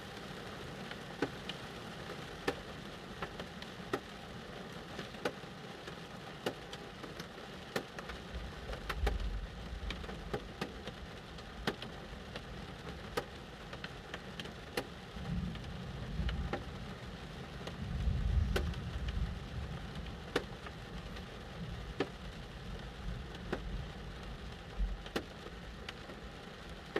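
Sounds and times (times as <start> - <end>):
rain pattering on car: 0.0 - 26.9
raindrops ticking sharply: 0.1 - 26.9.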